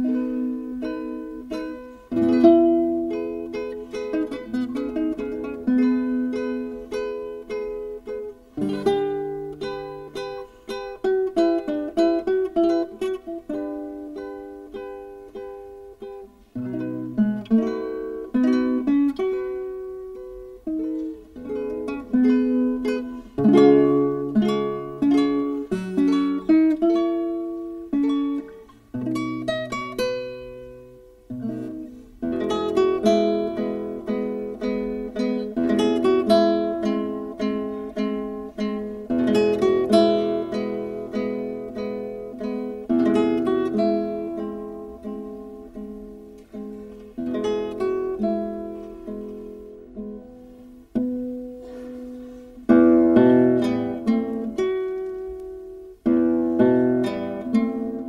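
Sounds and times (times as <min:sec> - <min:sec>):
fingerstyle classical guitar: 0:00.0 - 0:58.0.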